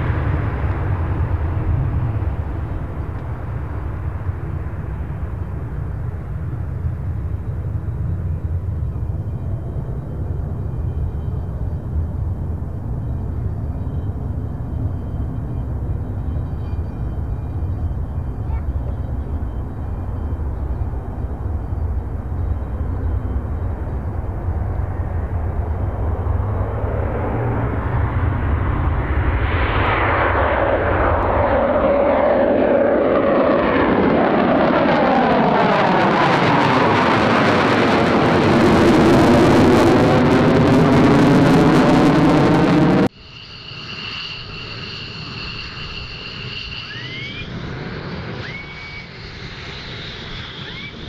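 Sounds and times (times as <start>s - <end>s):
fighter jet taking off: 0.0s - 51.0s
jet engine whine: 0.0s - 51.0s.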